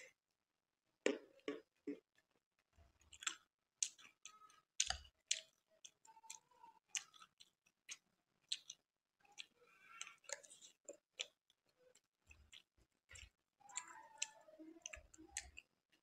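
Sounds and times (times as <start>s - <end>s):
wet chewing clicks: 3.0s - 16.0s.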